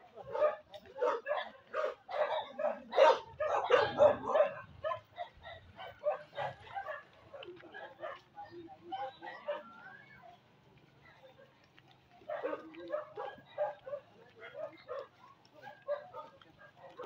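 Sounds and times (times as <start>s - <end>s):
dog barking and yipping: 0.0s - 10.4s, 11.0s - 17.0s.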